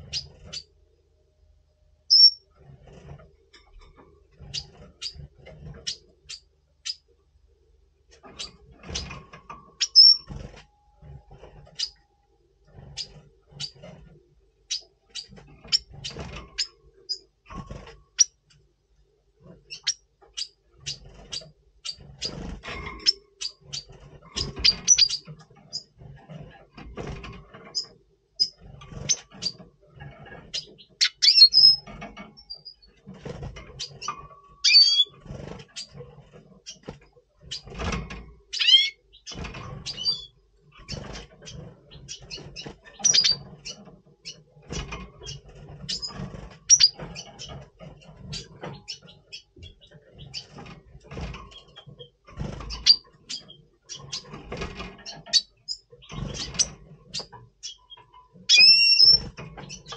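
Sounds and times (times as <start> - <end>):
small birds chirping and twittering: 0.0 - 59.9
birds rustling in cage: 2.0 - 18.7, 19.3 - 59.9.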